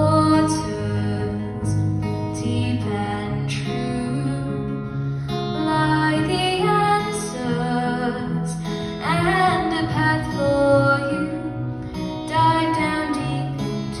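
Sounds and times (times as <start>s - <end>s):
girl singing: 0.0s - 4.8s, 5.4s - 14.0s
acoustic guitar strumming: 0.0s - 14.0s.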